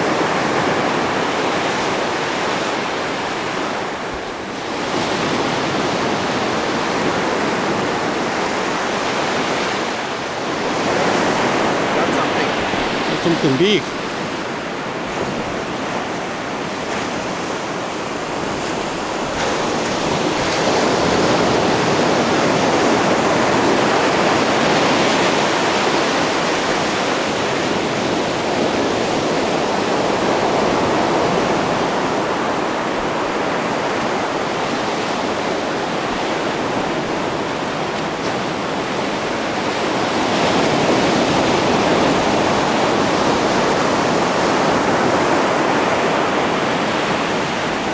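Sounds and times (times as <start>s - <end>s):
ocean surf on sandy beach: 0.0s - 47.9s.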